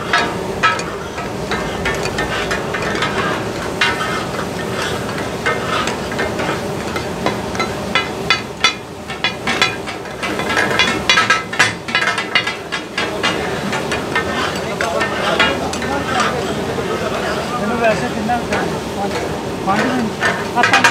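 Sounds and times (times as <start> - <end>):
metal spatulas clacking on griddle: 0.0 - 20.9.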